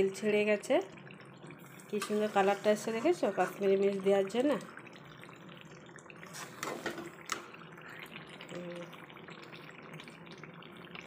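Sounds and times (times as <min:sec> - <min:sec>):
curry bubbling and sizzling: 0:00.0 - 0:11.0.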